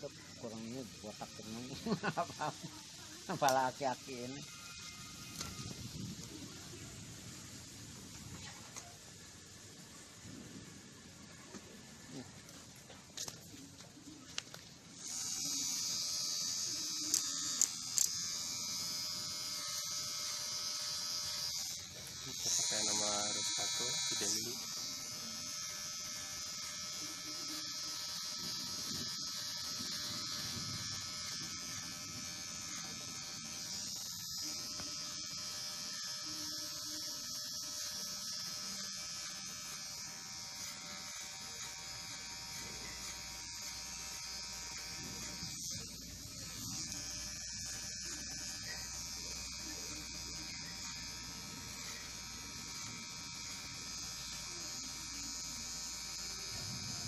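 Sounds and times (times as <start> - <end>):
electric hair clipper buzzing: 0.0 - 9.0, 13.2 - 57.0.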